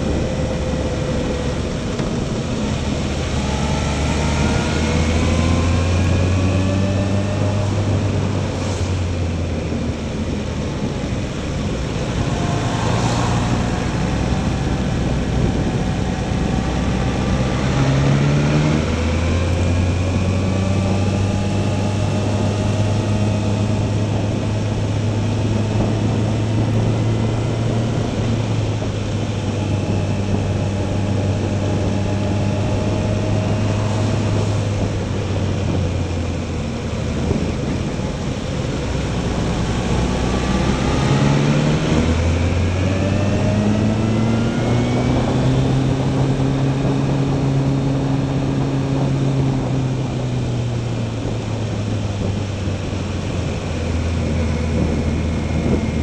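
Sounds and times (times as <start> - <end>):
motorcycle engine: 0.0 - 56.0
wind noise: 0.0 - 56.0.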